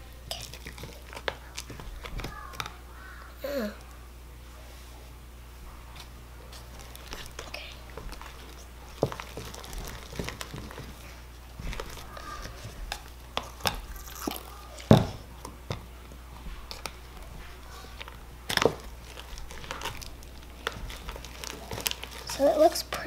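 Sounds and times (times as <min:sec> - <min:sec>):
slime squelching: 0:00.0 - 0:04.0, 0:05.6 - 0:23.0.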